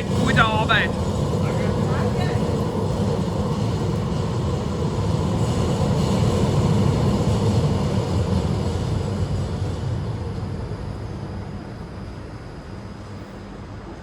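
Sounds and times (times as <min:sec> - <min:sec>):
tram rumbling: 0:00.0 - 0:14.0.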